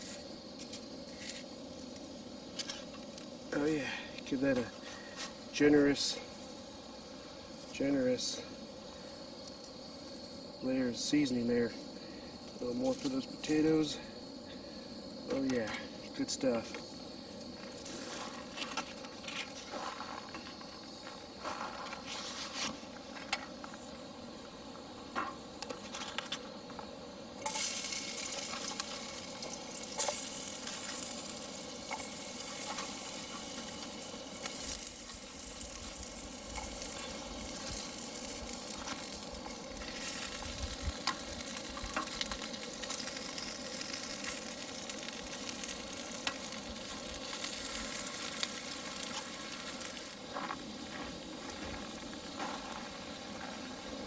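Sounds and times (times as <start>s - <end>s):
potatoes sizzling in oil: 0.0s - 10.0s, 14.6s - 22.7s, 27.4s - 54.0s.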